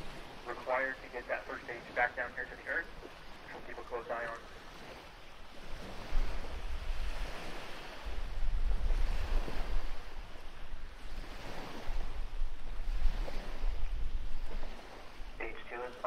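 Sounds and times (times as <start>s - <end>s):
wind gusting on microphone: 0.0s - 16.0s.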